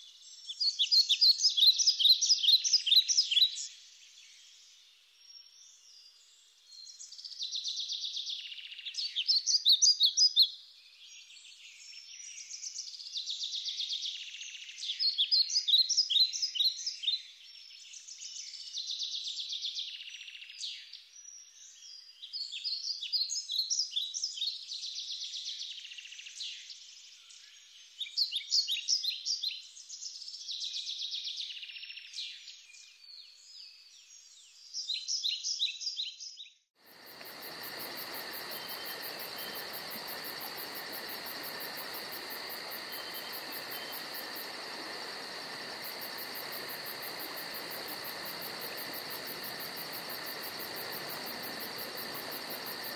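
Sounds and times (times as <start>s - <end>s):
songbird chirping and trilling: 0.0s - 36.6s, 37.2s - 52.9s.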